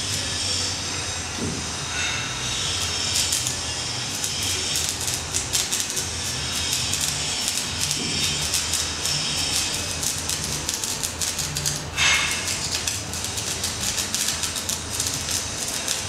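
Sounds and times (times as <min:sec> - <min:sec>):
welding arc crackling: 0:00.0 - 0:16.0.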